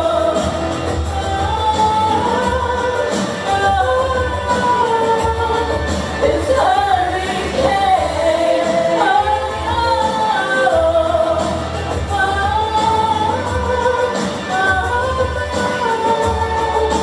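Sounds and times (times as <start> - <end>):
pop music bass beat: 0.0 - 17.0
woman singing: 0.0 - 17.0.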